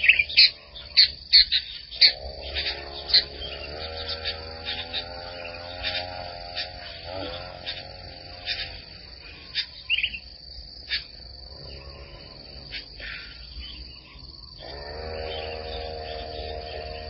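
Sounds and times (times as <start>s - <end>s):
bird chirps: 0.0s - 17.0s
insect trill: 0.0s - 17.0s.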